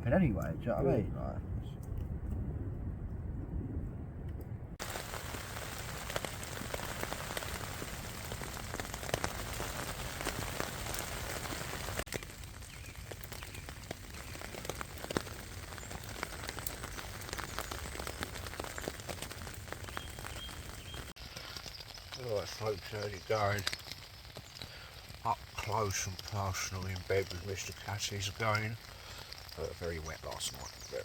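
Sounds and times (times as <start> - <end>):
rain drops tapping: 4.8 - 31.0.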